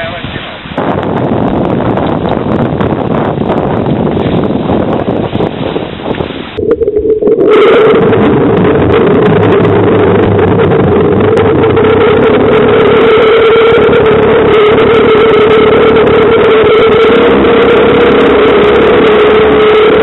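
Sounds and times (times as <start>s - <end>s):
outboard motor running: 1.0s - 20.0s.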